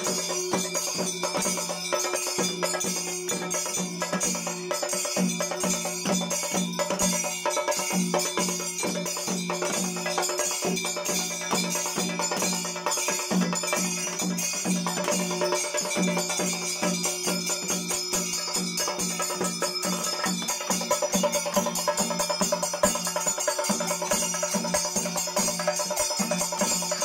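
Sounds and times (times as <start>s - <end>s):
drum beating: 0.0s - 27.0s
metallic clashing and jingling: 0.0s - 27.0s.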